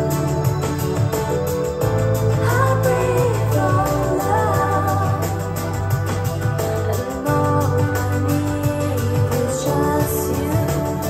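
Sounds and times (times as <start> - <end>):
cassette music with keyboard: 0.0 - 11.0
steady beat: 0.0 - 11.0.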